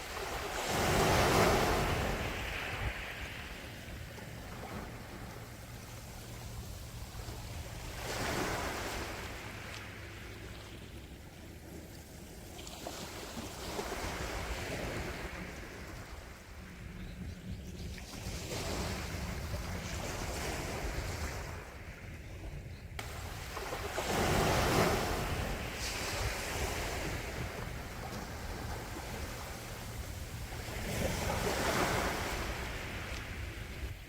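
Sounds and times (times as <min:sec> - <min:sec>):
wind on microphone: 0:00.0 - 0:09.7, 0:13.6 - 0:34.0
sea waves breaking on shore: 0:00.0 - 0:17.0, 0:17.9 - 0:34.0.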